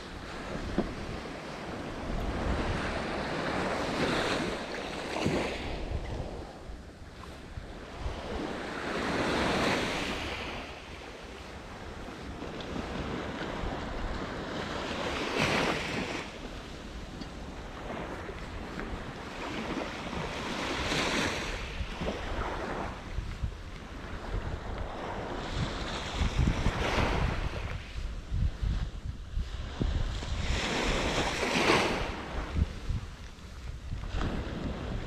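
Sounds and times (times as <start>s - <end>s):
waves breaking on sandy beach: 0.0s - 35.0s
wind rumbling on microphone: 0.0s - 35.0s.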